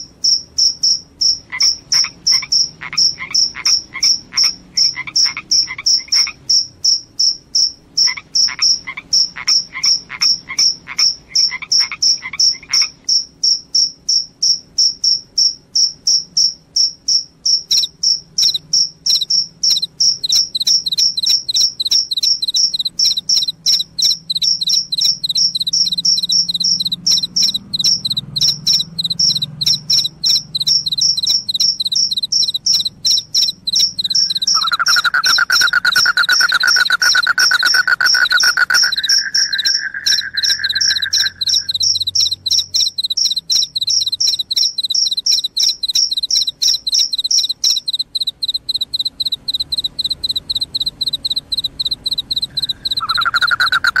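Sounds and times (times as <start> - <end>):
crickets chirping: 0.0 - 54.0
lower faster insect trill: 0.0 - 54.0.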